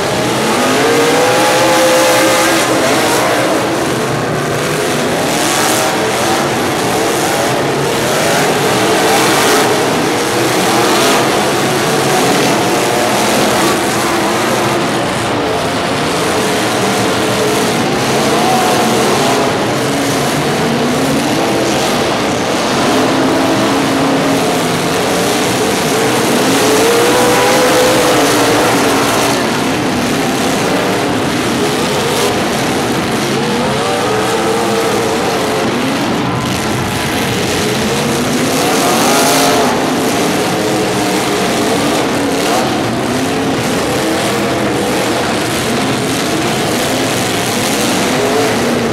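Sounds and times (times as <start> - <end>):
noisy din: 0.0 - 48.9
vehicle engines revving: 0.0 - 48.9.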